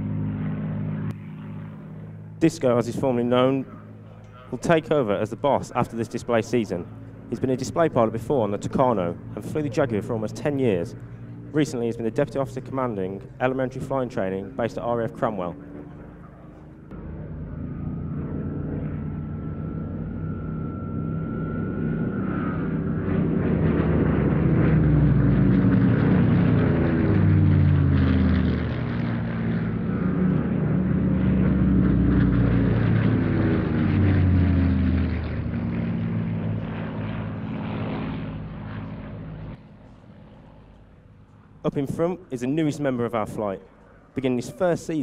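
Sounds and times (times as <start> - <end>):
propeller planes droning past: 0.0 - 45.0.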